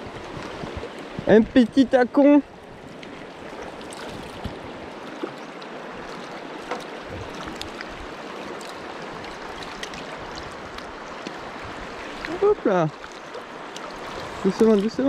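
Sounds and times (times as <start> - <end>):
river current over cobbles: 0.0 - 15.0.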